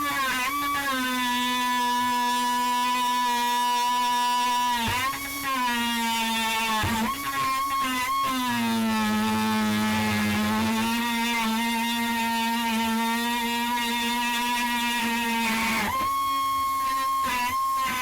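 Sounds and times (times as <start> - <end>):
power tool motor whining: 0.0 - 18.0.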